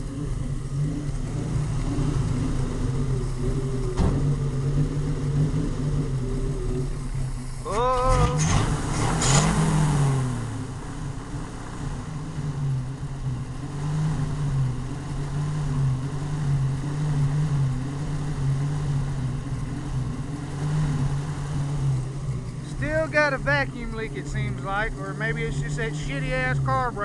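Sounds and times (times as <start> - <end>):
truck engine revving and idling: 0.0 - 27.0.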